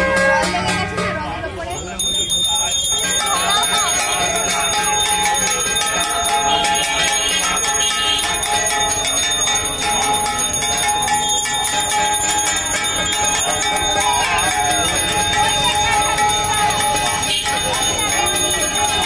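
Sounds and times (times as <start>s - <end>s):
hand bell ringing: 1.7s - 19.0s.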